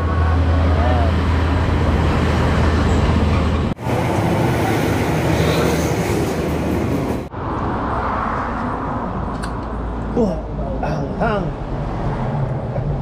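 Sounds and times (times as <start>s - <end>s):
passing vehicles rumbling: 0.0s - 13.0s.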